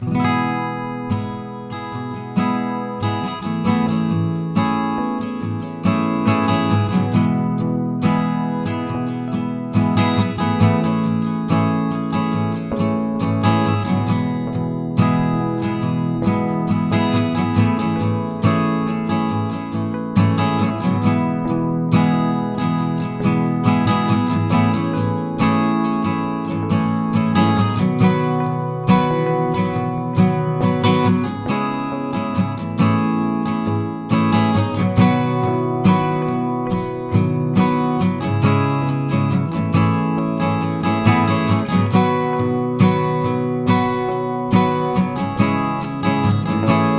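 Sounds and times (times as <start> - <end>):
strummed acoustic guitar music: 0.0 - 46.9.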